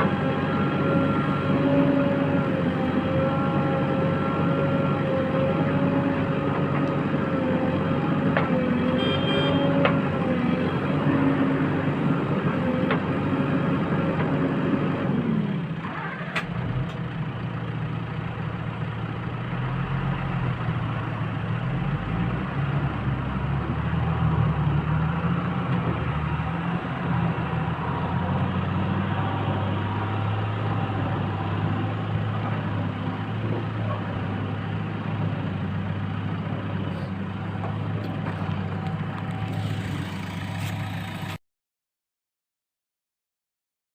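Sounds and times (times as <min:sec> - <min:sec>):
diesel engine running: 0:00.0 - 0:41.4.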